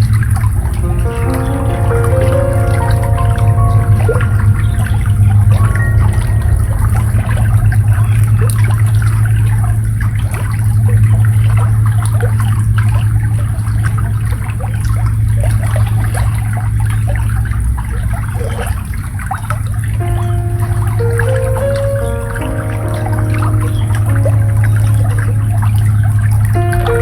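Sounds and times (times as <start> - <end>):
water babbling and trickling: 0.0 - 27.0.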